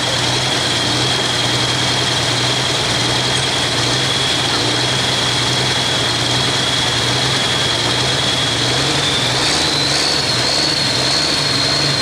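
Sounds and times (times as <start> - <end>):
high whine: 0.0 - 12.0
tractor diesel engine running: 0.0 - 12.0.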